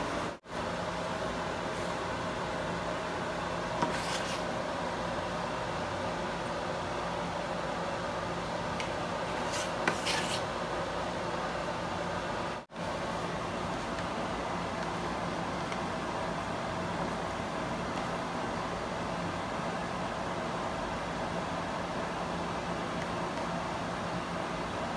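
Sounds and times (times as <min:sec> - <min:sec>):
fan-like room hum: 0:00.0 - 0:24.9.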